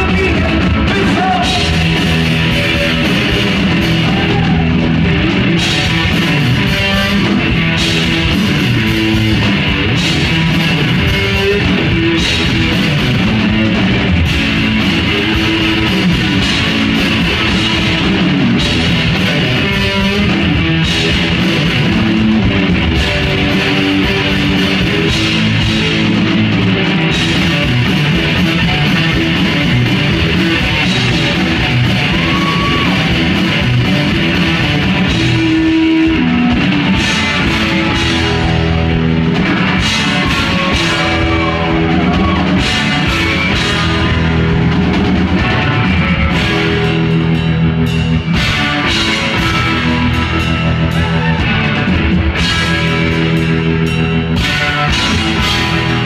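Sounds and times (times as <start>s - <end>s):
drum kit playing loudly: 0.0s - 56.0s
electric guitar: 0.0s - 56.0s.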